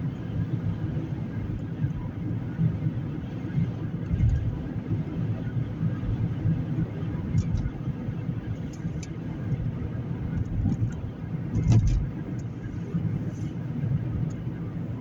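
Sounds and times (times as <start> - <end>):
car driving interior rumble: 0.0 - 15.0.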